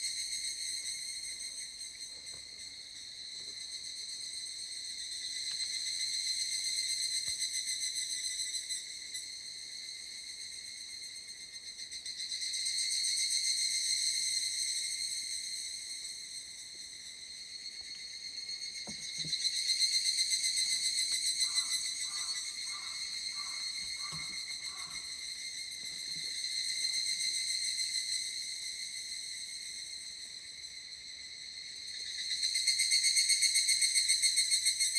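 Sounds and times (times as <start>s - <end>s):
cicadas calling in high ringing trill: 0.0s - 34.9s.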